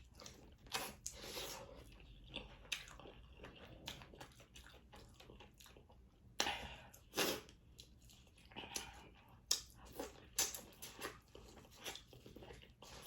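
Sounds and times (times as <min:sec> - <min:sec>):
wet chewing and biting: 0:00.0 - 0:13.0.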